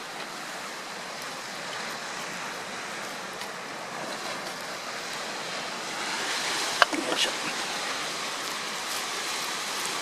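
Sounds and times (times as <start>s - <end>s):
sea waves rushing on shore: 0.0s - 10.0s.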